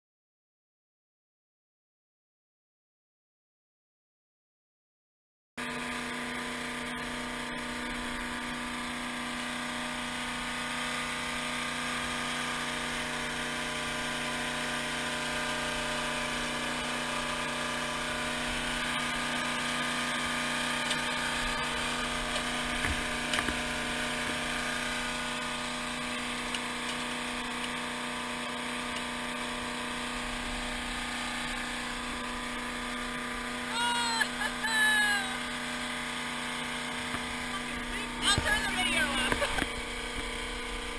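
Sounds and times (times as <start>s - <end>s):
small engine droning: 5.6s - 40.9s.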